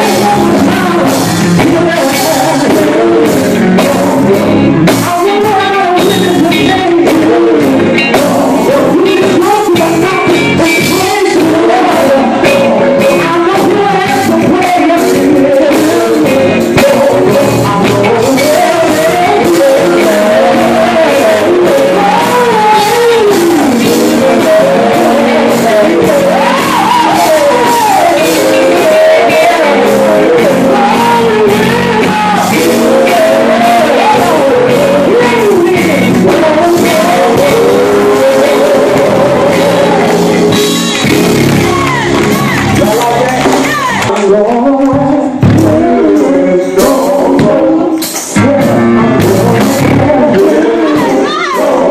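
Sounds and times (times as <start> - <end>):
bass guitar: 0.0 - 51.9
drum kit beat: 0.0 - 51.9
electric guitar: 0.0 - 51.9
male group singing gospel: 0.0 - 51.9.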